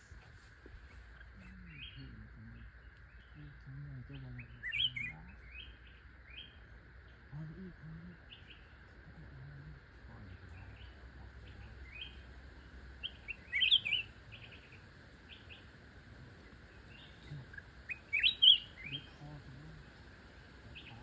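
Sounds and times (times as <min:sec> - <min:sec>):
small birds chirping: 0:00.0 - 0:21.0
steady high background hiss: 0:00.0 - 0:21.0.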